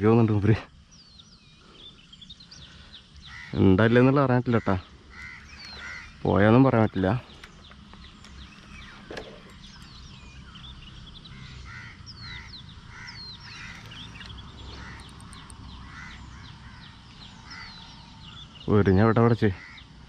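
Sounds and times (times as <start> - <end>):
coarse bird call: 1.1 - 20.0.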